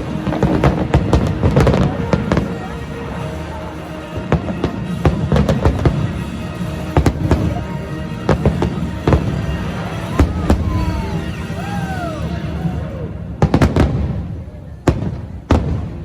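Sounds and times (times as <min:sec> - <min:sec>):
fireworks bangs: 0:00.0 - 0:16.0
music playing: 0:00.0 - 0:16.0.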